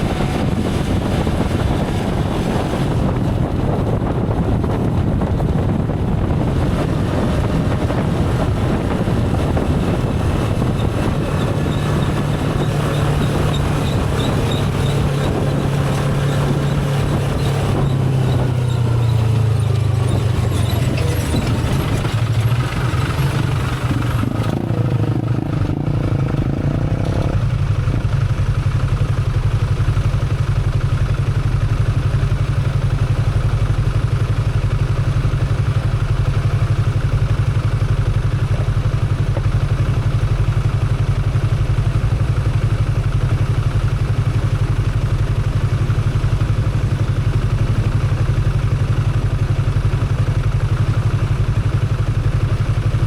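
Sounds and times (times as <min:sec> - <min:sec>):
motorcycle engine running: 0:00.0 - 0:53.0
wind and road noise: 0:00.0 - 0:53.0.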